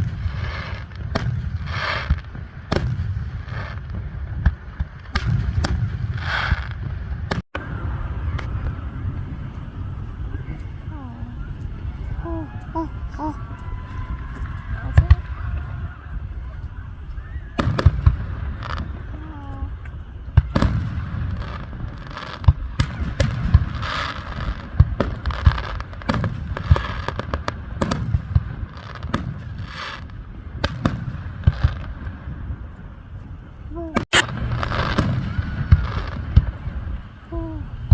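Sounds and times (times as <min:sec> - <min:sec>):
firework booms: 0:00.0 - 0:37.9
firework crackling: 0:00.0 - 0:37.9.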